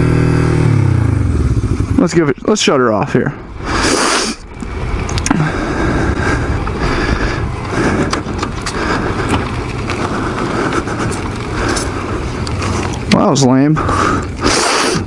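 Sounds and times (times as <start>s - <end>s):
motorcycle engine running: 0.0s - 3.8s, 4.4s - 15.0s
wind and road noise: 0.0s - 15.0s.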